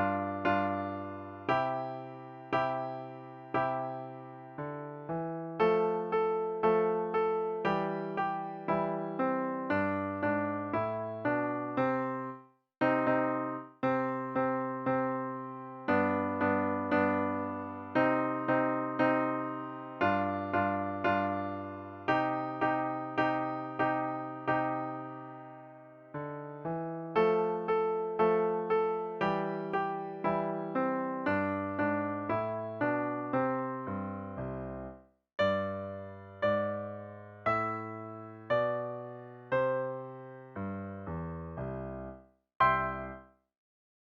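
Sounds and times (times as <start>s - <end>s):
piano chords: 0.0s - 43.2s.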